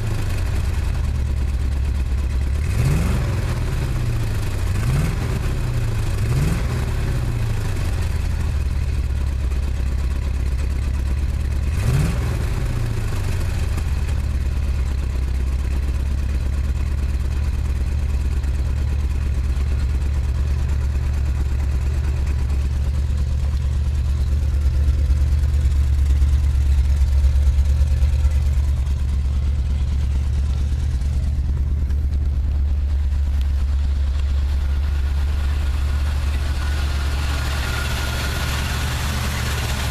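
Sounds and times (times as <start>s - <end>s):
misfiring engine idling and revving: 0.0s - 39.9s.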